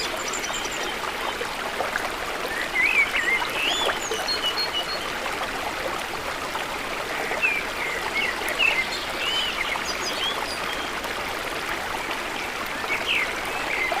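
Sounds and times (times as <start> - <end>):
trickling running water: 0.0 - 14.0.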